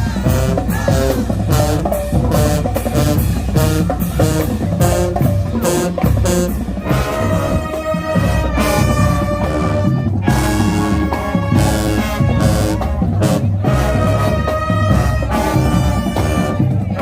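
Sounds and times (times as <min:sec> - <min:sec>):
brass band with drums: 0:00.0 - 0:17.0.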